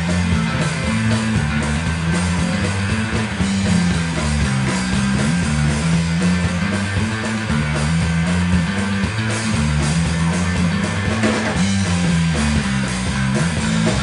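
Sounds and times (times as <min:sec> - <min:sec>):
rock band playing live: 0:00.0 - 0:14.0
stepping bass line: 0:00.0 - 0:14.0.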